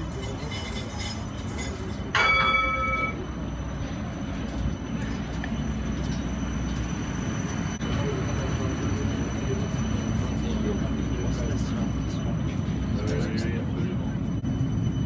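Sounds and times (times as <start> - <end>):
tram rolling with rumble: 0.0 - 15.0
tram warning bell chime: 0.0 - 15.0.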